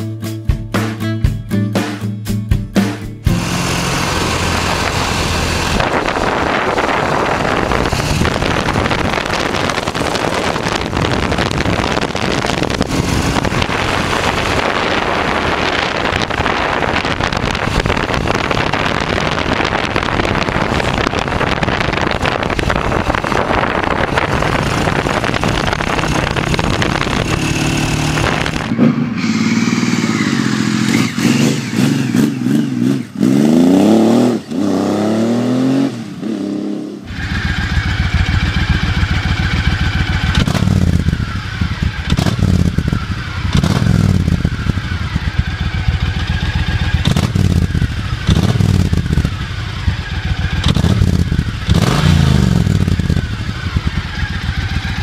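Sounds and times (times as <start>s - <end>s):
motorcycle engine: 2.9s - 55.0s
wind rush: 3.3s - 55.0s.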